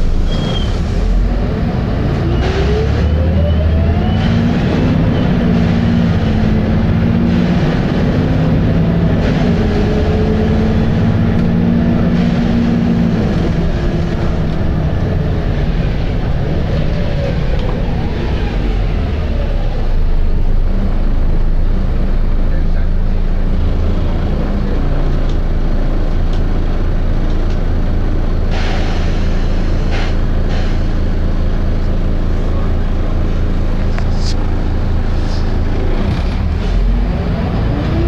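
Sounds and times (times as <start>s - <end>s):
bus diesel engine with whine: 0.0s - 38.0s.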